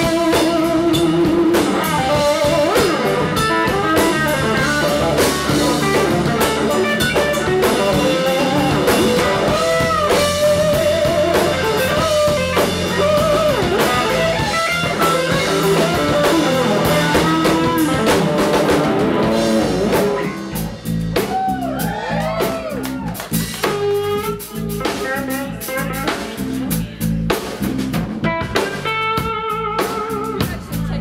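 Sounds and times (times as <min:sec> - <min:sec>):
electric guitar bending notes: 0:00.0 - 0:21.3, 0:23.2 - 0:30.9
blues-rock band playing: 0:00.0 - 0:31.0
drum kit: 0:00.0 - 0:31.0.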